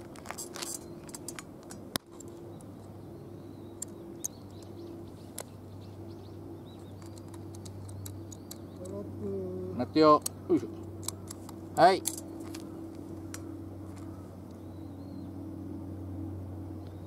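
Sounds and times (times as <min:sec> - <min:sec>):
low steady hum: 0:00.0 - 0:17.0
small birds chirping: 0:00.1 - 0:15.5, 0:16.7 - 0:17.0.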